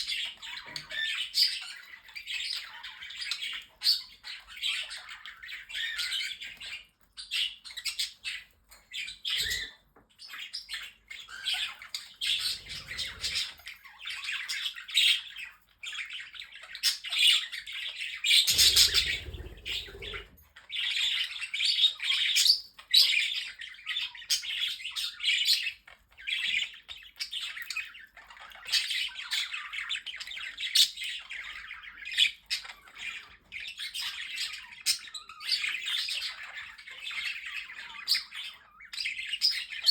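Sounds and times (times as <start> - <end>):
parrots chattering and squawking: 0.0 - 39.9.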